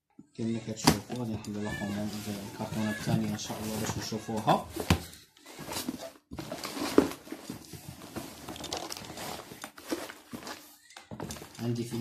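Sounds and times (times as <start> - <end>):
cardboard and plastic bag rustling: 1.6 - 12.0.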